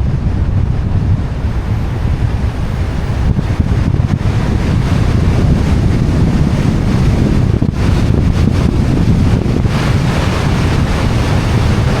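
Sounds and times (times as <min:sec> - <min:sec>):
road and tyre noise: 0:00.0 - 0:12.0
wind buffeting microphone: 0:00.0 - 0:12.0.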